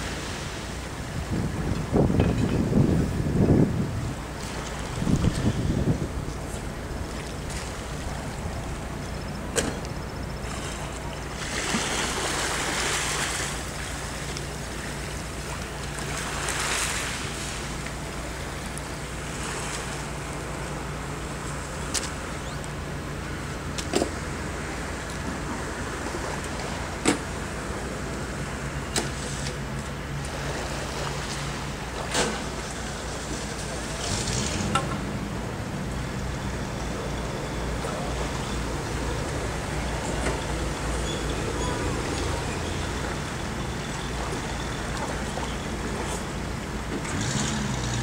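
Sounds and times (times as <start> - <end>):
vehicle engine humming: 0.0 - 48.0.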